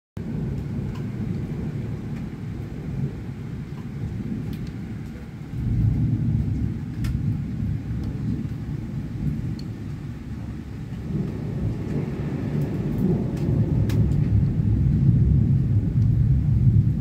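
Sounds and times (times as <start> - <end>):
faint rain ticks: 0.2 - 17.0
thunder rumbling: 0.2 - 17.0.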